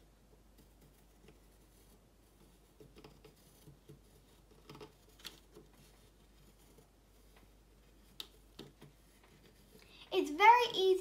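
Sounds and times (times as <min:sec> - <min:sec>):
paintbrush tapping and scratching: 0:00.2 - 0:11.0.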